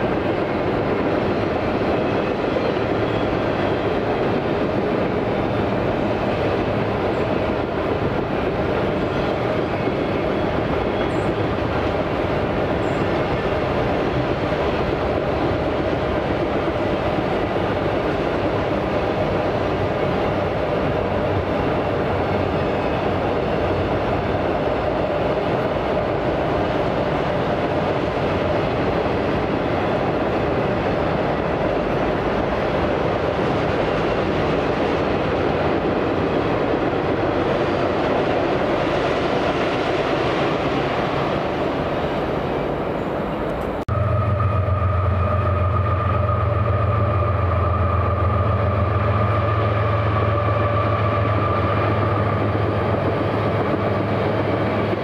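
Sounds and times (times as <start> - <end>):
train cars rolling on rails: 0.0 - 55.0.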